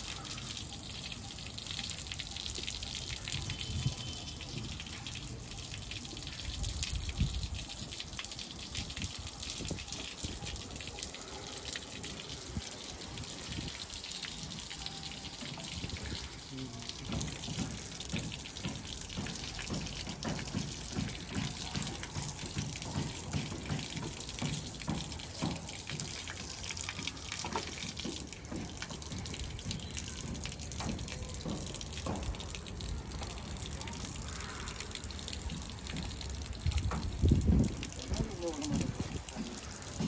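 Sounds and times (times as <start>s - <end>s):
water running: 0.0s - 40.0s.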